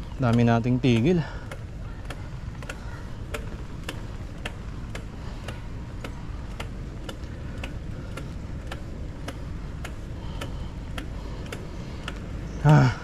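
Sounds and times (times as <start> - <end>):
bicycle freewheel ticking: 0.0 - 13.0
steady low rumble: 0.0 - 13.0.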